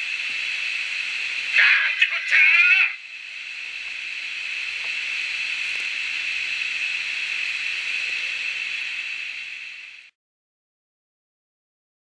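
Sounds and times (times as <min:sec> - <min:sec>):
steam hiss from small speaker: 0:00.0 - 0:10.2.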